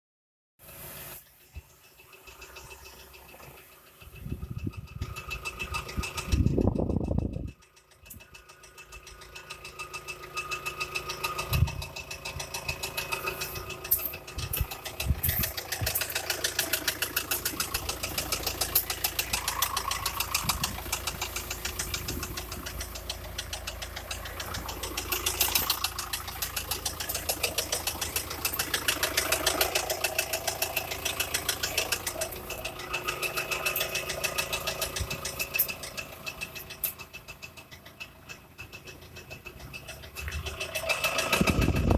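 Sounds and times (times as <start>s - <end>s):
engine running with rapid knock: 0.6s - 41.9s.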